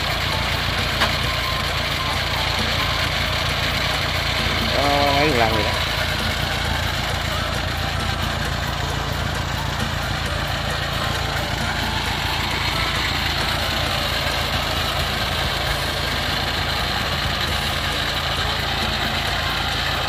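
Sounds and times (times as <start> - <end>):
tracked vehicle engine idling: 0.0 - 20.0.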